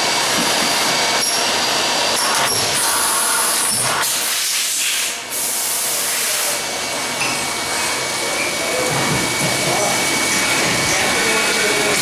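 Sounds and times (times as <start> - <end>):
loud hissing noise: 0.0 - 12.0.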